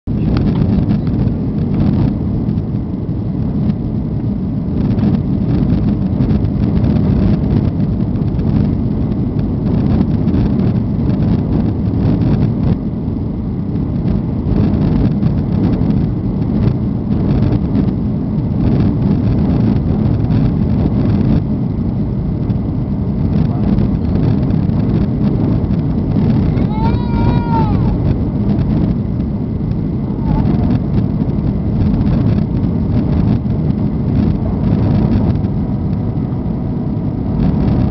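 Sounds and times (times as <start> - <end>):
airliner cabin rumble: 0.0 - 37.9.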